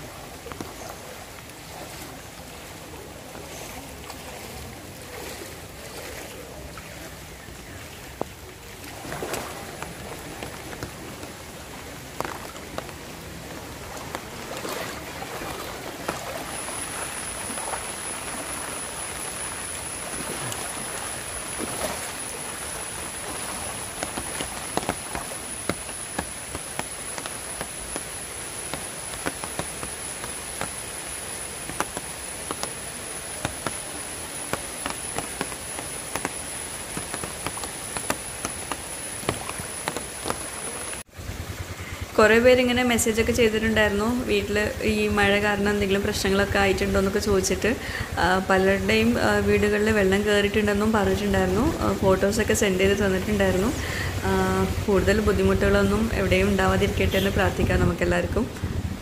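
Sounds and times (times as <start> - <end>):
heavy rain on water and foliage: 0.0 - 59.0.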